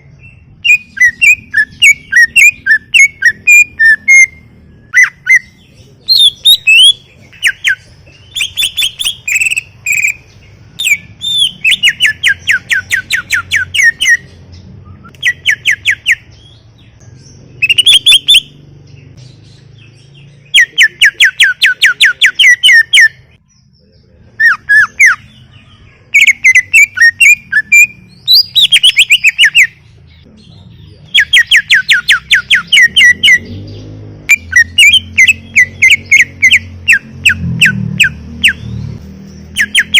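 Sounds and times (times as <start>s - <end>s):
bird singing rapid whistled notes: 0.0s - 39.9s.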